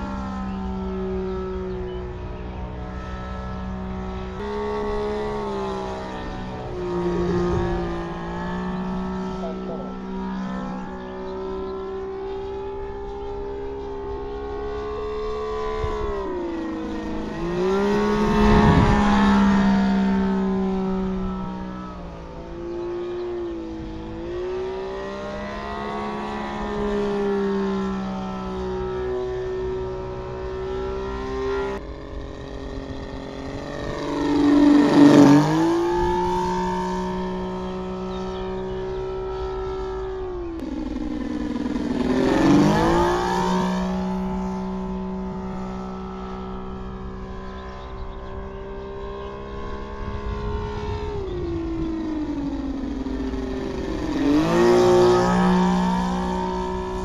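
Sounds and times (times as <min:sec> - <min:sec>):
model plane engine: 0:00.0 - 0:57.0.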